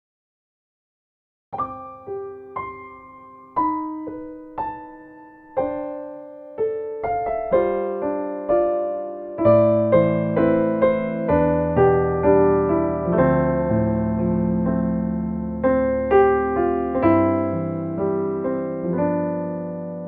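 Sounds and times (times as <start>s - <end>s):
solo piano ballad: 1.6s - 20.0s.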